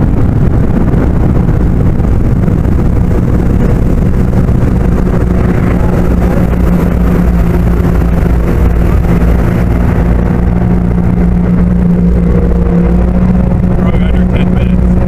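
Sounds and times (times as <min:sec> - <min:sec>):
jet boat engine droning: 0:00.0 - 0:15.0
water rushing: 0:00.0 - 0:15.0.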